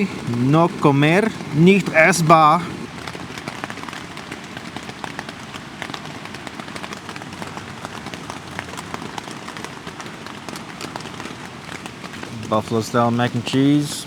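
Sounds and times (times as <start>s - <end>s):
steady rain with drops ticking: 0.0s - 14.0s.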